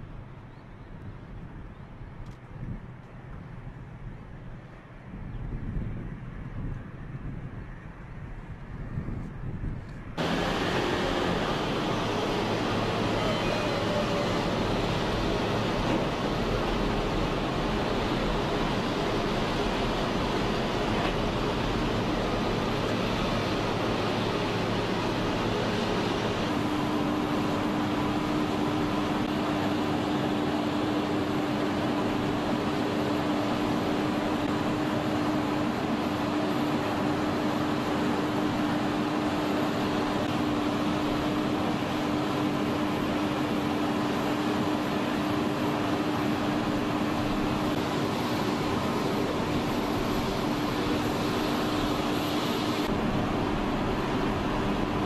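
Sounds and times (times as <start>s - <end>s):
steady hum: 9.6s - 55.0s
machinery engine running: 10.2s - 55.0s.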